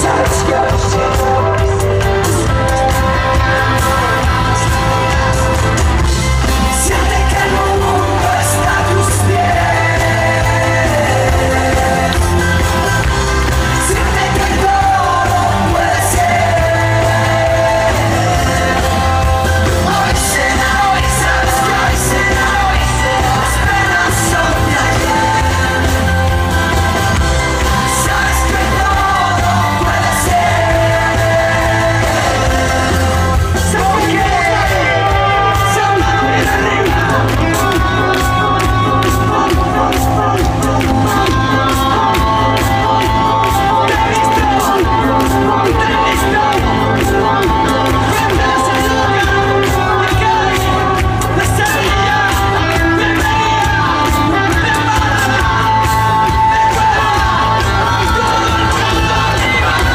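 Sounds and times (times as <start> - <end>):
man singing live: 0.0 - 59.9
rock band playing: 0.0 - 59.9.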